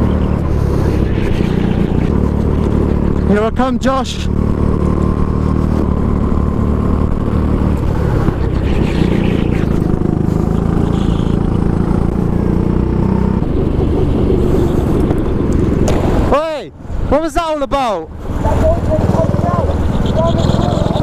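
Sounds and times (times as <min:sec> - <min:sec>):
go-kart engine running hard: 0:00.0 - 0:17.1, 0:18.1 - 0:21.0.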